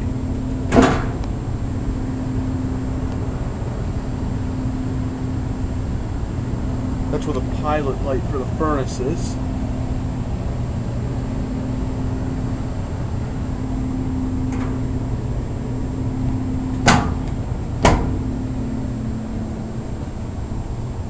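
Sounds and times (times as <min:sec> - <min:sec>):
furnace blower humming: 0:00.0 - 0:21.0.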